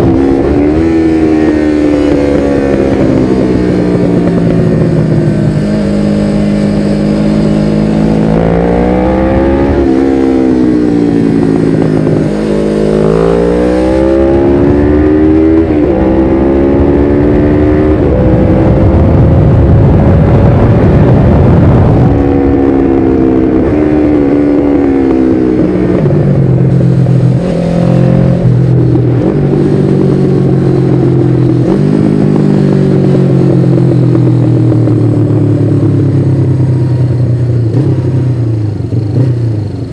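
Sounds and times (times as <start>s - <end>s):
motorcycle engine revving: 0.0s - 39.9s
rushing wind noise: 0.0s - 39.9s.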